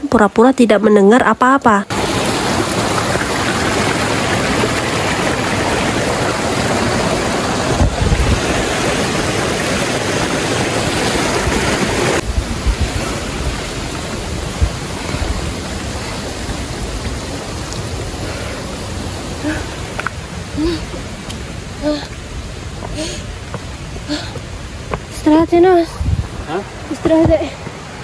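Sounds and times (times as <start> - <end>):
waterfall rushing: 1.9 - 28.0.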